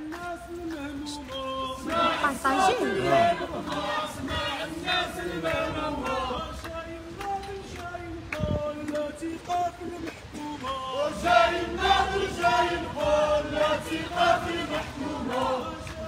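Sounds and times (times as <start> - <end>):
crowd chanting slogans: 0.0 - 16.0.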